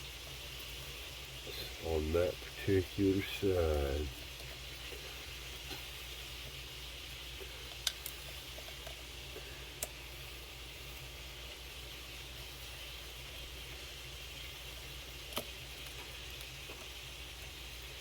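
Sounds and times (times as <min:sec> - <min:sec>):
faint room hum and hiss: 0:00.0 - 0:18.0.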